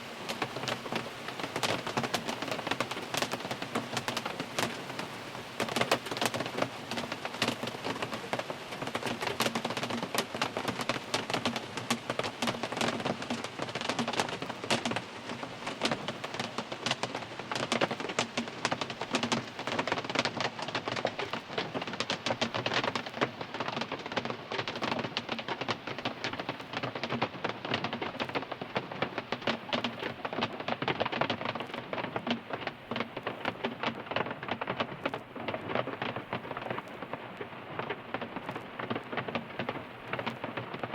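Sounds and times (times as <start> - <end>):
rain drumming on a car roof: 0.0 - 40.9.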